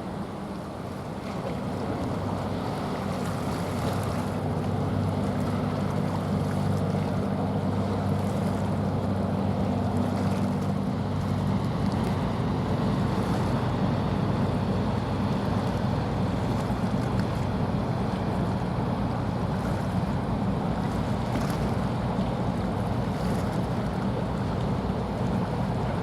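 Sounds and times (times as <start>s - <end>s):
ship engine low hum: 0.0s - 26.0s
water wash: 0.0s - 26.0s.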